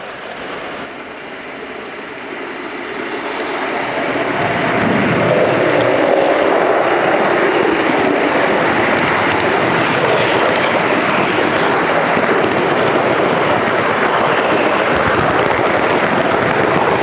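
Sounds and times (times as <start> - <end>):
steam locomotive rushing: 0.0 - 17.0.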